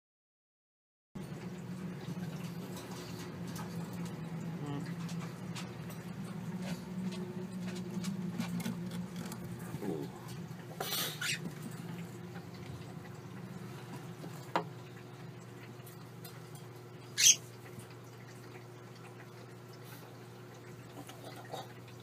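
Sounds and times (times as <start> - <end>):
low room hum: 1.2 - 22.0.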